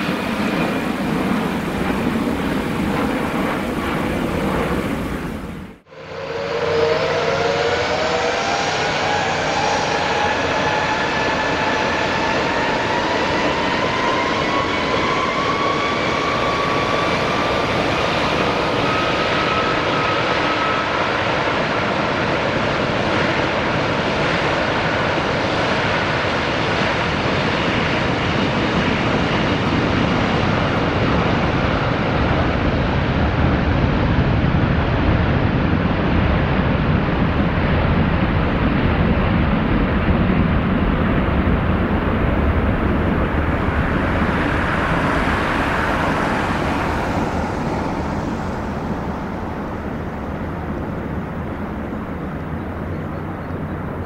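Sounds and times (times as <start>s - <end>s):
deep jet rumble: 0.0s - 54.0s
jet engine whine rising: 0.0s - 54.0s
loud jet noise: 0.0s - 54.0s.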